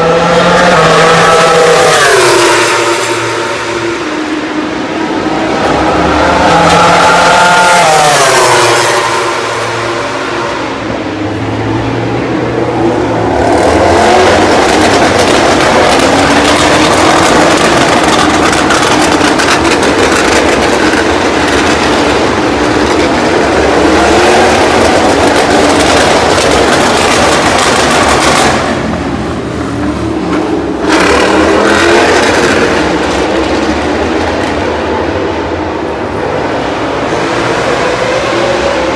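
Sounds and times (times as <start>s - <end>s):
racing motorcycles at full throttle: 0.0s - 38.9s.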